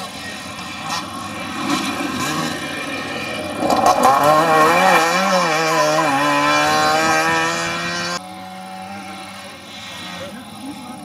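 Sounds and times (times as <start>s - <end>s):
rally car engine revving: 0.0s - 11.0s
tyres on gravel: 0.0s - 11.0s.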